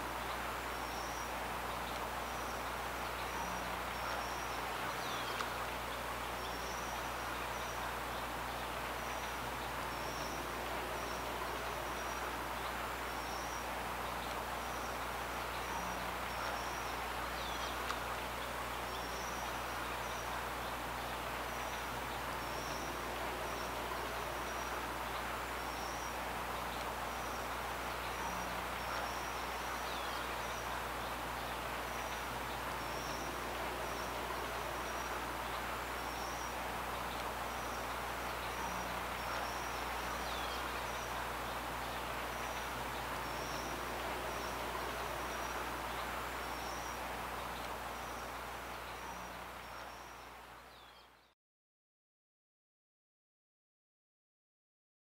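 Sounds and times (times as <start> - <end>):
steady hiss: 0.0 - 51.0
faint low hum: 0.0 - 51.3.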